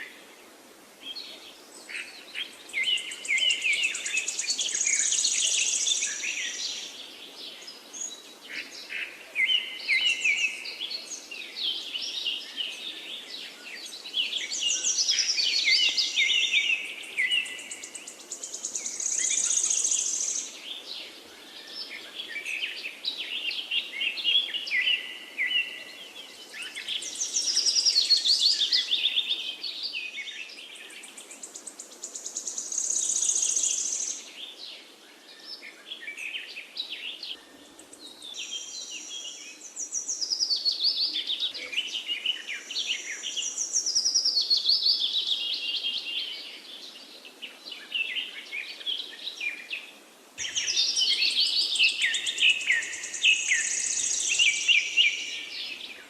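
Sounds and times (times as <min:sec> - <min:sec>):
faint steady hiss: 0:00.0 - 0:56.0
songbirds chirping: 0:00.0 - 0:56.0.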